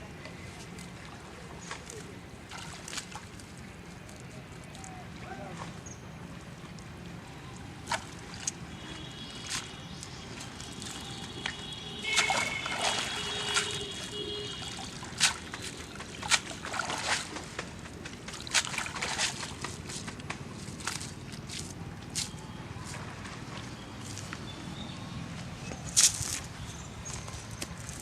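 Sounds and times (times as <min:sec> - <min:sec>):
water sloshing and trickling: 0:00.0 - 0:28.0
water splashes and drips: 0:00.1 - 0:24.5, 0:25.3 - 0:28.0.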